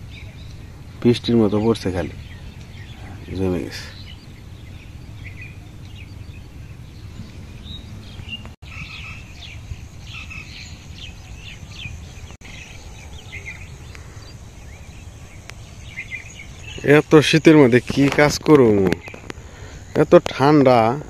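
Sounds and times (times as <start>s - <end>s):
low outdoor background rumble: 0.0s - 21.0s
small birds chirping: 0.0s - 21.0s.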